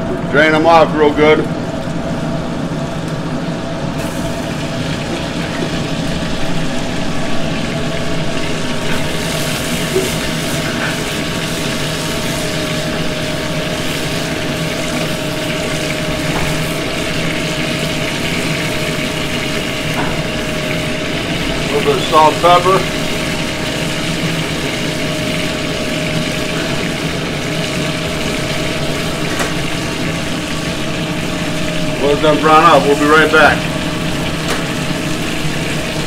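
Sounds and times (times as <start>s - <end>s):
kitchen gas range roar: 0.0s - 36.0s
ventilation roar: 0.0s - 36.0s
vegetables sizzling in fat: 4.0s - 36.0s.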